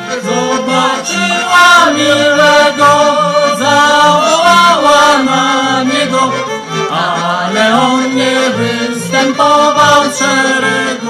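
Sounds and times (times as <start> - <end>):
person singing: 0.0 - 11.0
repeating bass line: 0.0 - 11.0.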